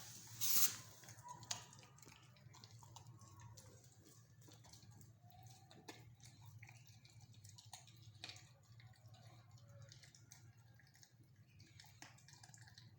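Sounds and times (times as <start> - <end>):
dog chewing and crunching bone: 0.0 - 12.9.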